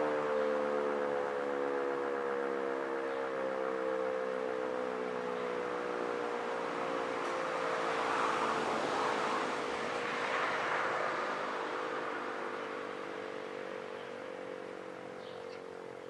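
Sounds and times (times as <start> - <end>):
air-raid siren steady tone: 0.0 - 16.0.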